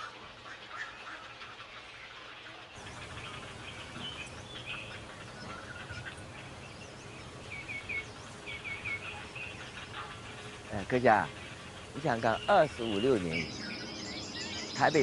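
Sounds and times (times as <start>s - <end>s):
flock of birds chirping: 0.0s - 15.0s
steady background hiss: 0.0s - 15.0s.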